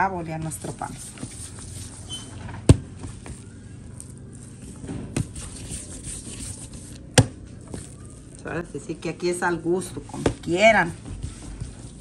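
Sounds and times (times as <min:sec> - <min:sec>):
dough rustling on plastic: 0:00.0 - 0:12.0.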